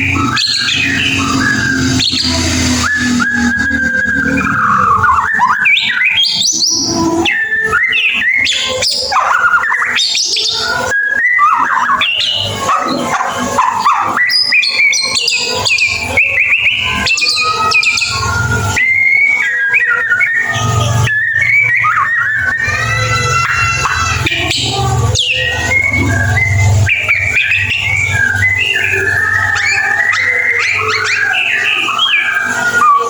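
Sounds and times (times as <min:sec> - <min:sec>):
bird singing: 0:00.0 - 0:33.0.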